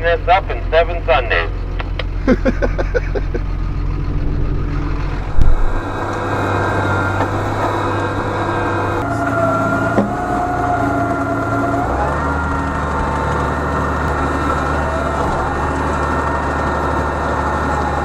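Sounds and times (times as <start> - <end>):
steady whine: 0.0 - 18.0
tractor engine running: 0.0 - 18.0.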